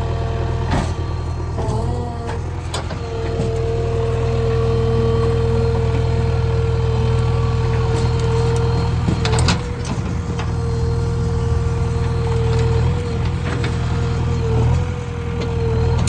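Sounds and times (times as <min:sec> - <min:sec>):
diesel engine running: 0:00.0 - 0:16.0
steady whine: 0:00.7 - 0:14.5.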